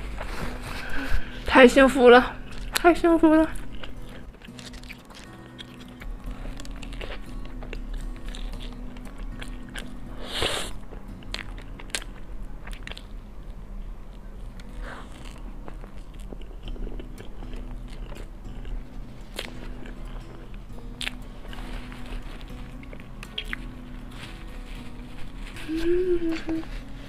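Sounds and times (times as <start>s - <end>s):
chewing pastry: 3.5s - 27.0s.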